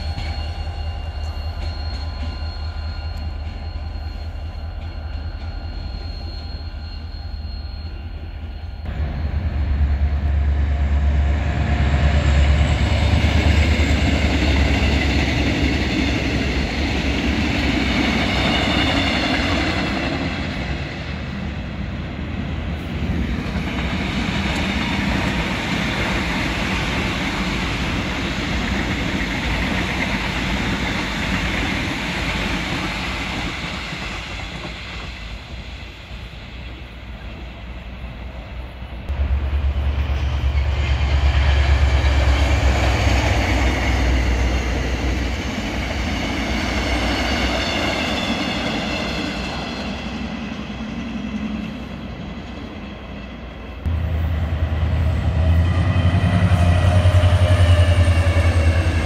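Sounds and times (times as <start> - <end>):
heavy low train rumble: 0.0 - 59.0
train wheels rumbling: 0.0 - 59.0.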